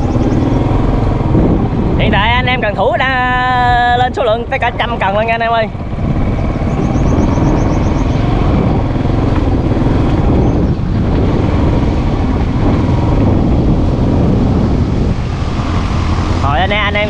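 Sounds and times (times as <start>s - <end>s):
motorbike engine running: 0.0s - 17.0s
road noise: 0.0s - 17.0s.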